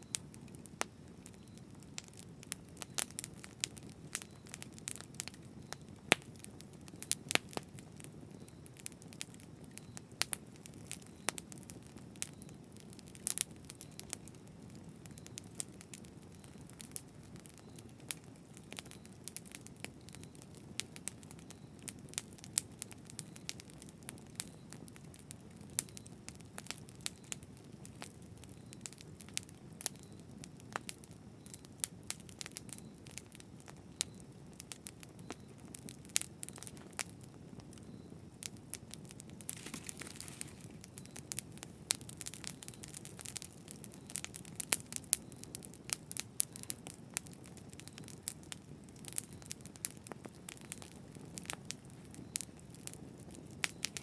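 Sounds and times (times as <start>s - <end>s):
campfire crackling: 0.0s - 54.0s
low rumble of flames: 0.0s - 54.0s.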